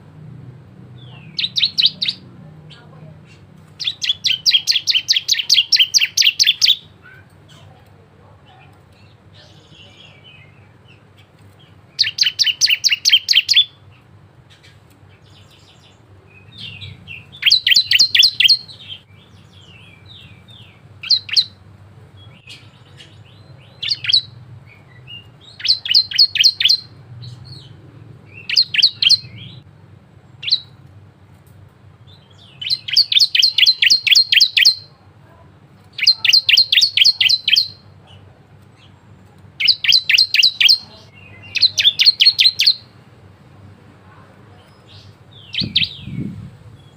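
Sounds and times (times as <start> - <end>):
bird rapid high chirps: 1.0 - 7.6, 9.0 - 21.6, 22.2 - 29.6, 30.3 - 30.8, 32.0 - 34.9, 35.9 - 37.9, 39.6 - 43.0, 44.6 - 46.9.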